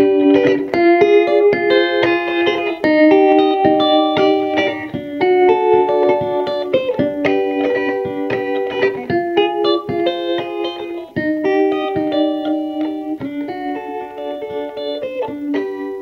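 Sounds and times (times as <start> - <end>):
electric guitar picking clean notes: 0.0 - 16.0.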